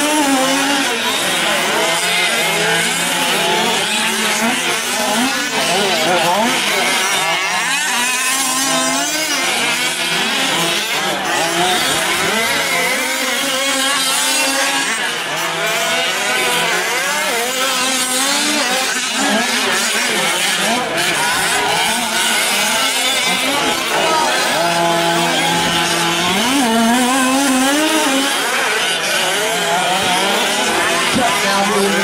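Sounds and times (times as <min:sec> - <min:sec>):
small two-stroke engines buzzing: 0:00.0 - 0:32.0.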